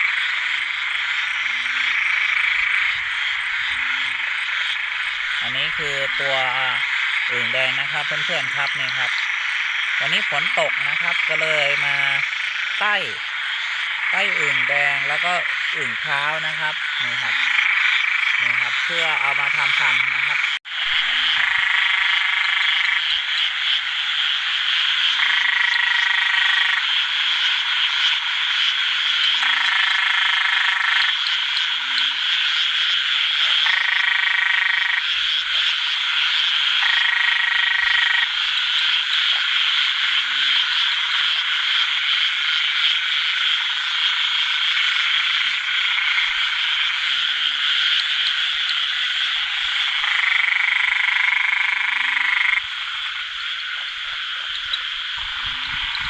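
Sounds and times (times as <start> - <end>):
dense chorus of frogs: 0.0 - 56.0
nearer frog calling: 0.0 - 56.0.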